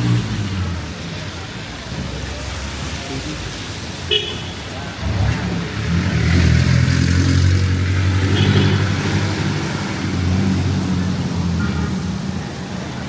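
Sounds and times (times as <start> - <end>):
street noise hiss: 0.0 - 13.0.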